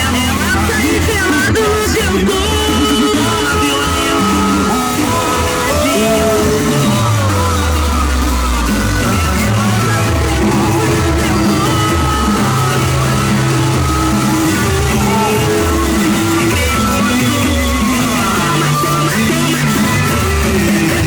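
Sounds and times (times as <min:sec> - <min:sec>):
loud music with heavy bass: 0:00.0 - 0:21.0.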